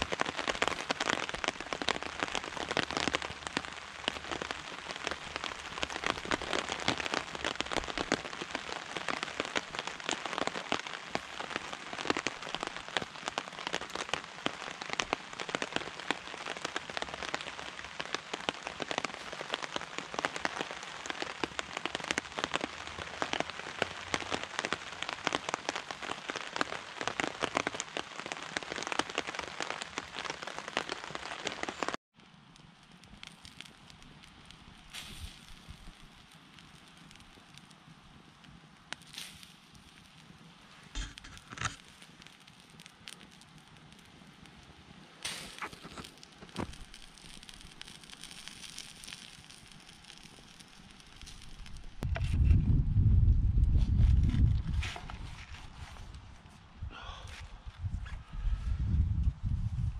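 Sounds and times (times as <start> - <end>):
steady rain falling: 0.0 - 52.3, 54.0 - 57.9.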